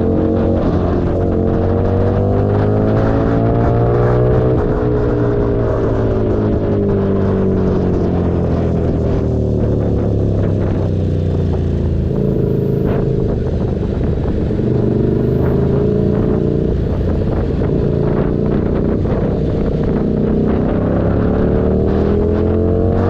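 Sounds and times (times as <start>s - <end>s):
motorcycle engine exhaust note: 0.0s - 23.0s.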